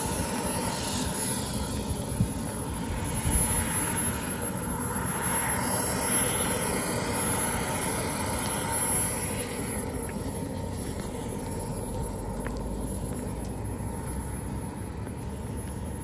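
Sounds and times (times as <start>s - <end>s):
model jet turbine whine: 0.0s - 16.0s.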